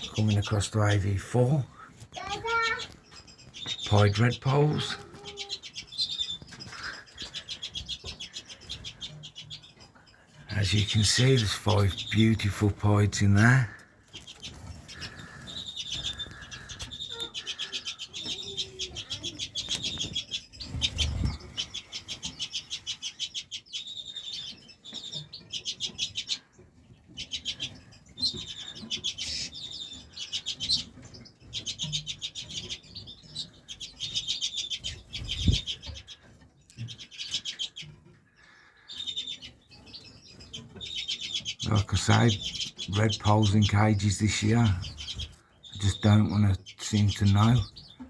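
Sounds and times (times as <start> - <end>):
birds chattering: 0.0 - 48.0.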